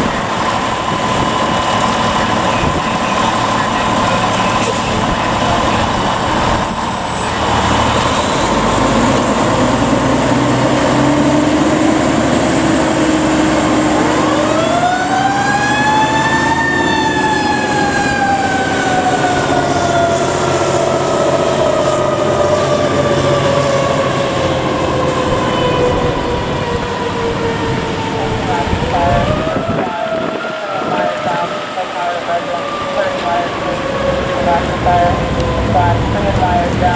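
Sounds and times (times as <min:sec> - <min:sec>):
truck engine running: 0:00.0 - 0:30.2.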